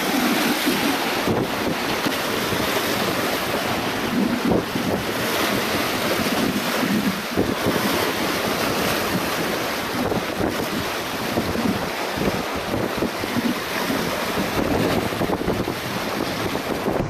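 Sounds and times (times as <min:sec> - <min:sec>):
waves washing against rocks: 0:00.0 - 0:17.0
wind buffeting microphone: 0:00.0 - 0:17.0.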